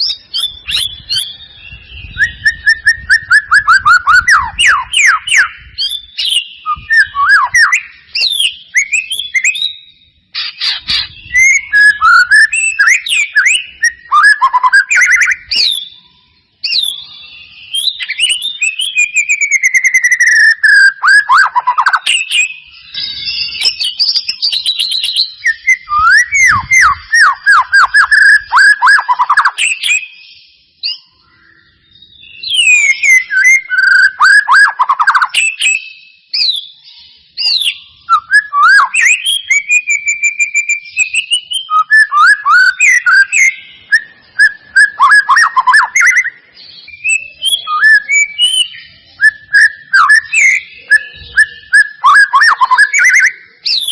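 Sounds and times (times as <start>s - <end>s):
bird singing whistles and trills: 0.0s - 53.9s.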